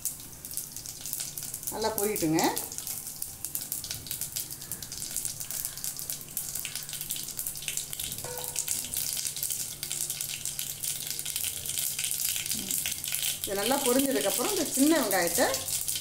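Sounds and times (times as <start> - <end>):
seeds crackling in hot oil: 0.0 - 16.0.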